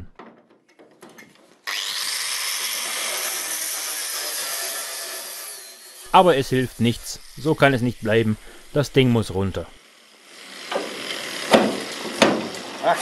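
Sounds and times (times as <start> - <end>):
angle grinder grinding steel: 1.6 - 12.8.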